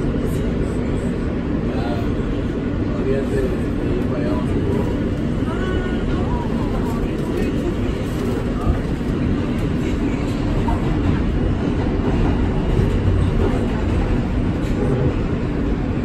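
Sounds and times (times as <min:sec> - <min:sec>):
subway wheels rumbling on rails: 0:00.0 - 0:16.0.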